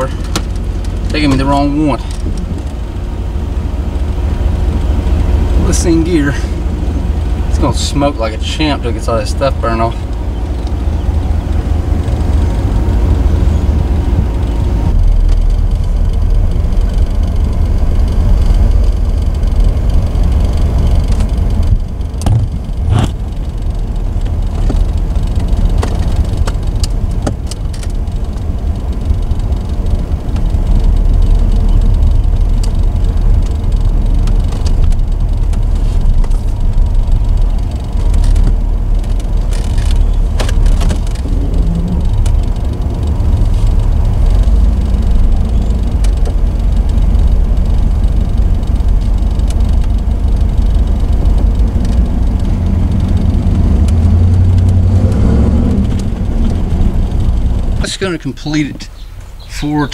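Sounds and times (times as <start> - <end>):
car engine low rumble: 0.0 - 59.9.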